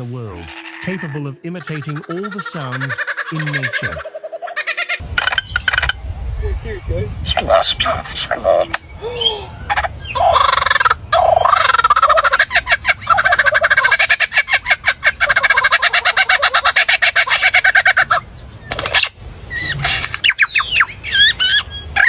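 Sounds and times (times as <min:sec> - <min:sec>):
bird calls: 0:00.0 - 0:22.0.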